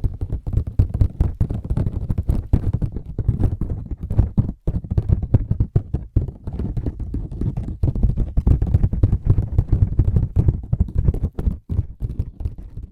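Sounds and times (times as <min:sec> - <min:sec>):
fingertips tapping and scratching: 0:00.0 - 0:12.9.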